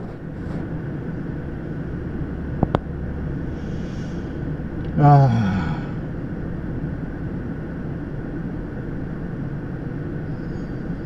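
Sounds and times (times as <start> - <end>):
freight train rumble: 0.0 - 11.0.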